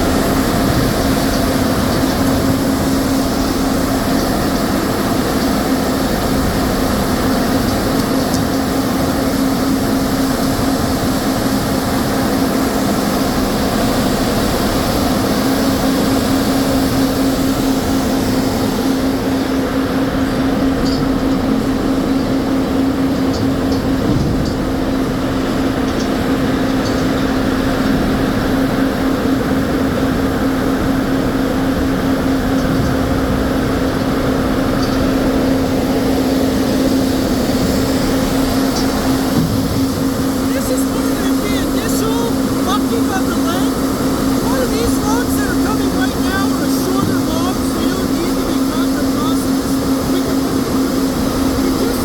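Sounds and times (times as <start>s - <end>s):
constant hum: 0.0s - 52.0s
sawmill machinery running: 0.0s - 52.0s.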